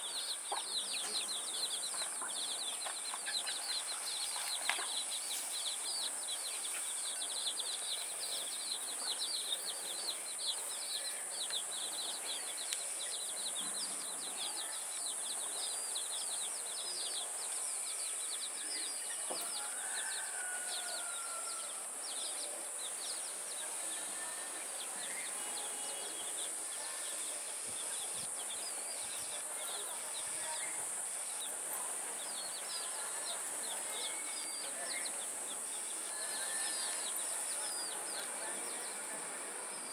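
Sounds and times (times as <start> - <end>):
chicks peeping: 0.0 - 39.2.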